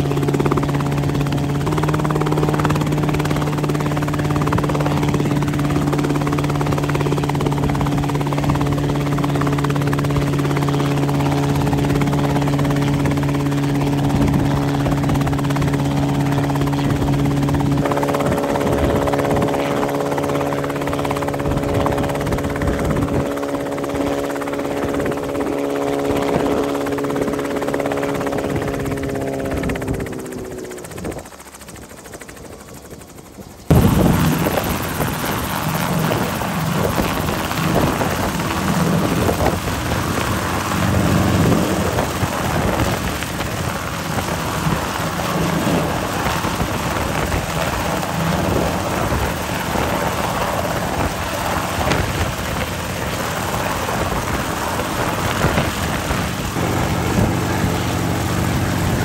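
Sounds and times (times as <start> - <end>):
helicopter winding down: 0.0 - 59.0
rough rushing helicopter rotor: 0.0 - 59.0.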